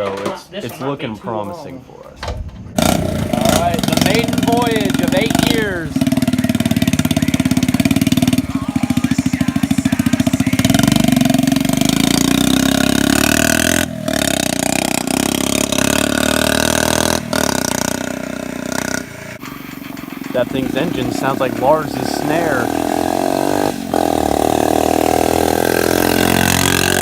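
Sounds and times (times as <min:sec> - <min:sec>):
small motorbike engine putting: 0:02.4 - 0:27.0.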